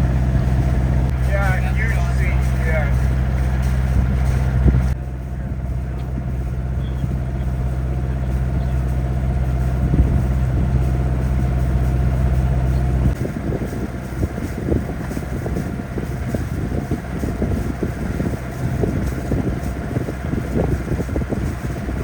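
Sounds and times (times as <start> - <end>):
boat motor droning: 0.0 - 22.0
wind noise on microphone: 0.0 - 22.0.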